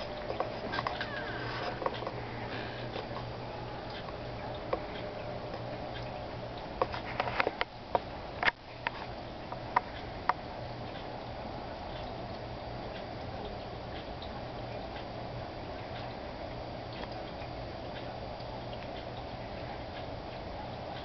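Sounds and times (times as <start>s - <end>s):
aquarium filter humming: 0.0s - 21.0s.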